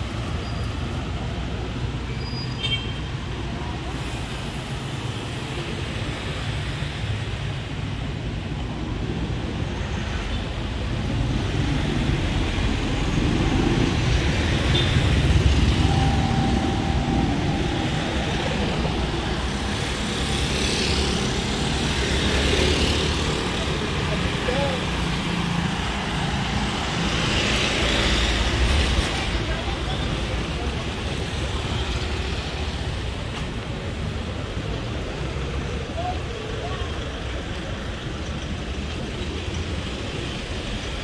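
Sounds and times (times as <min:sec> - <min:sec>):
cars and motorcycles passing: 0:03.2 - 0:41.0.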